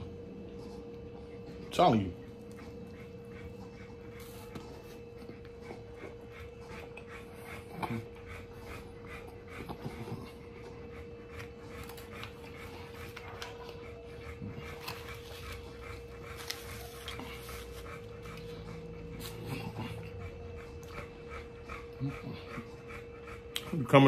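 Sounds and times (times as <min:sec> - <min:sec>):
man chewing food: 0:00.0 - 0:23.8.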